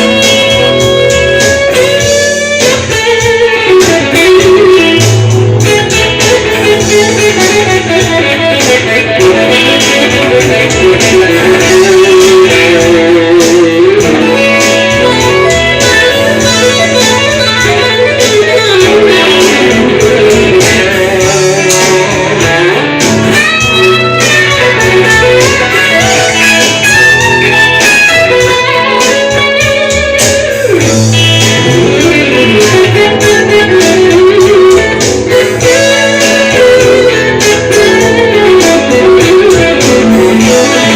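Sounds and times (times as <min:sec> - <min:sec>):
electric guitar lead lines: 0:00.0 - 0:40.9
soft rock backing track: 0:00.0 - 0:40.9.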